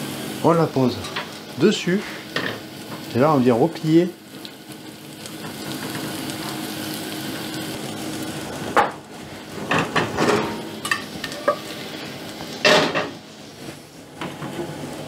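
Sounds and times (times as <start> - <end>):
cheese and oil sizzling in a pan: 0.0 - 15.0.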